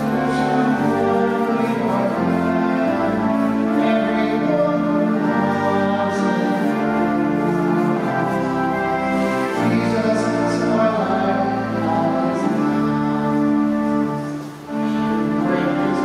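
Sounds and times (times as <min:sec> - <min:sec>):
slow church music chords: 0:00.0 - 0:16.0.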